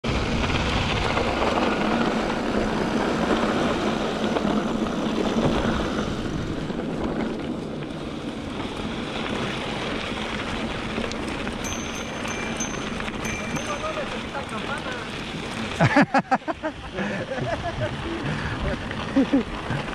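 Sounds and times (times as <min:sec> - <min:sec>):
bike tyres rolling over gravel: 0:00.1 - 0:19.9.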